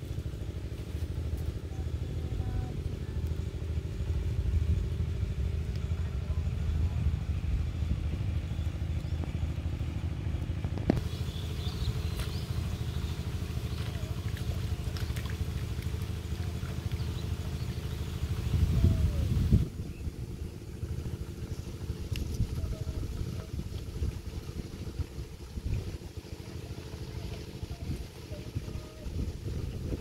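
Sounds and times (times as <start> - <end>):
engine running low rumble: 0.0 - 30.0.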